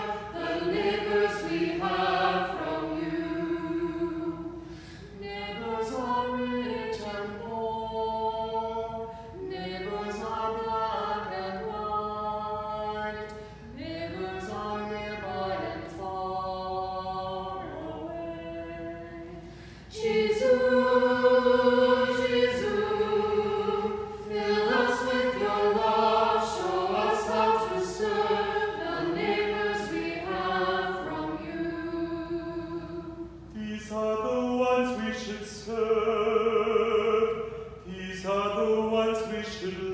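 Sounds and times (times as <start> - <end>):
choir singing unaccompanied: 0.0 - 39.9.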